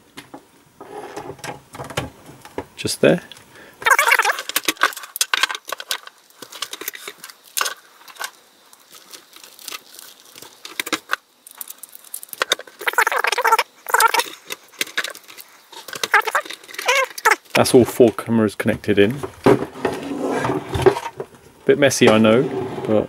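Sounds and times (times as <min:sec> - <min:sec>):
plastic rustling and crinkling: 0:03.4 - 0:23.0.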